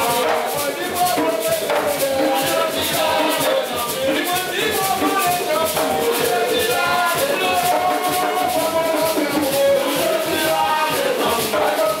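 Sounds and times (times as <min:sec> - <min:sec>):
hand drums playing fast rhythm: 0:00.0 - 0:12.0
voices singing: 0:00.0 - 0:12.0.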